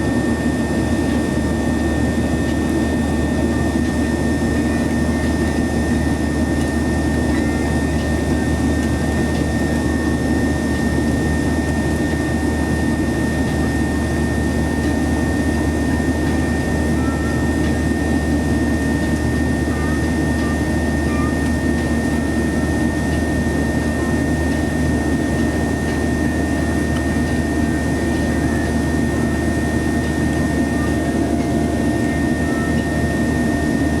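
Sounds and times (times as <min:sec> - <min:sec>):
high engine whine: 0:00.0 - 0:34.0
jet engine rush in cabin: 0:00.0 - 0:34.0.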